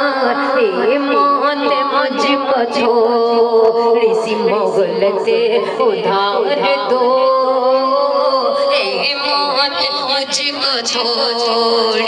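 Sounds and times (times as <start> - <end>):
person singing into a microphone: 0.0 - 12.0.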